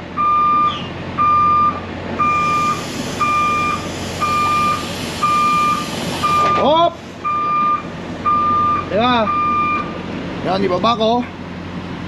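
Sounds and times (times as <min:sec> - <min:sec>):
vehicle backup alarm beeping: 0:00.2 - 0:10.0.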